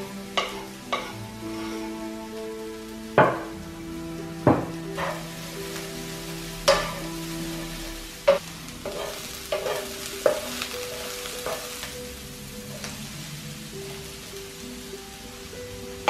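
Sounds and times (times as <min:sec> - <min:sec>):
onions sizzling in a pan: 0:00.0 - 0:16.0.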